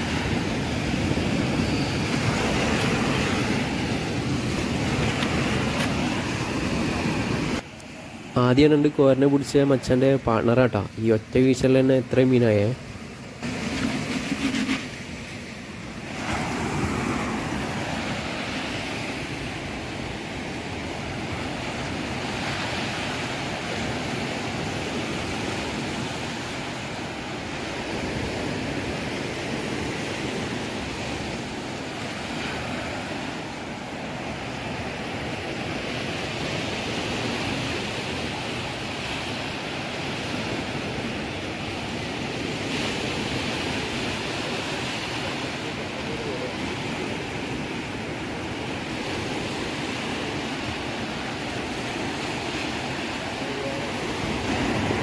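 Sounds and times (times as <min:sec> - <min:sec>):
surf washing up beach: 0:00.0 - 0:55.0.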